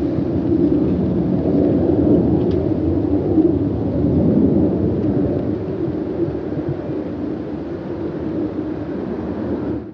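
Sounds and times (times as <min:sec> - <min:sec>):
jet airliner engines rumbling: 0:00.0 - 0:09.9.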